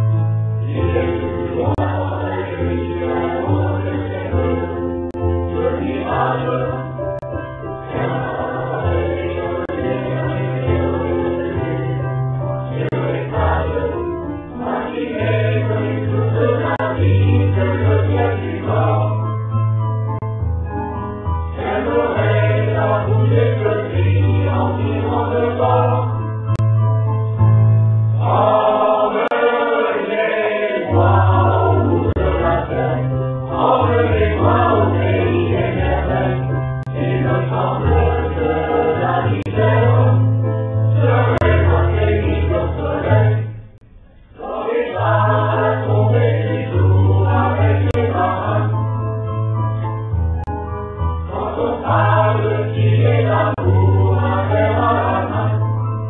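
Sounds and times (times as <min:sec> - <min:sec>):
choir singing: 0:00.6 - 0:19.5, 0:21.5 - 0:26.6, 0:28.2 - 0:48.9, 0:51.3 - 0:55.9.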